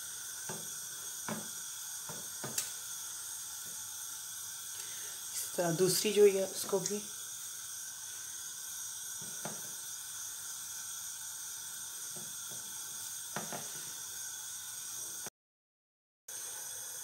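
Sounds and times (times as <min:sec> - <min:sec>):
background hiss: 0:00.0 - 0:15.3.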